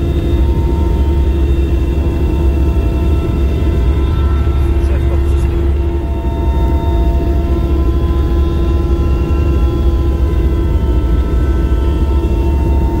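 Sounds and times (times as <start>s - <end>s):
aircraft engine rumble: 0.0s - 13.0s
steady whining tones: 0.0s - 13.0s.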